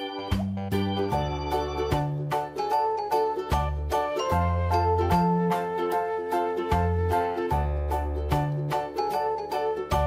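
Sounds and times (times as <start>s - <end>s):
light instrumental music: 0.0s - 10.0s.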